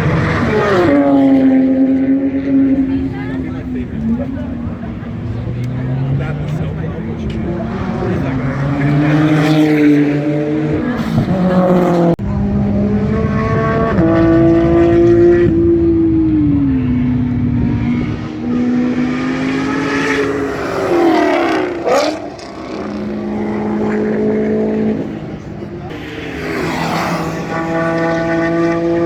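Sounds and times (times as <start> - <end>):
cars passing close by: 0.0 - 29.0
race car engines running hard: 0.0 - 29.0.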